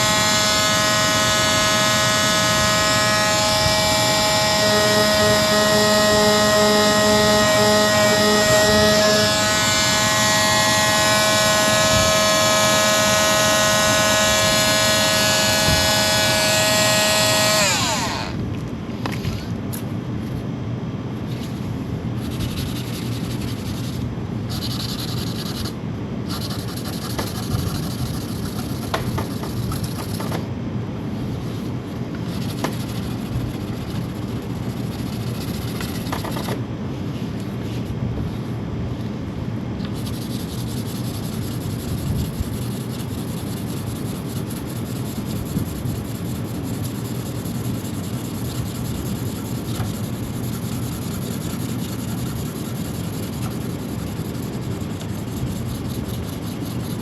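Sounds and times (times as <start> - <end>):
sanding painted metal: 0.0 - 18.3, 21.3 - 30.4, 31.2 - 36.6, 39.9 - 57.0.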